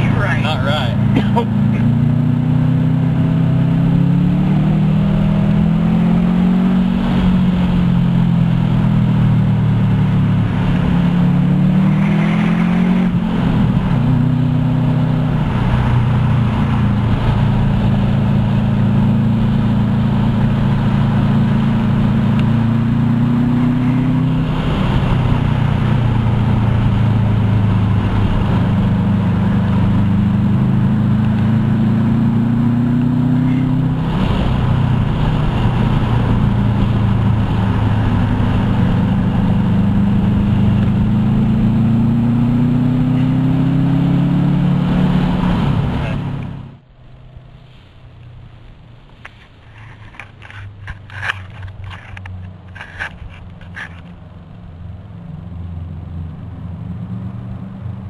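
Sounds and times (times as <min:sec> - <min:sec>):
car engine revving in cabin: 0:00.0 - 0:46.8.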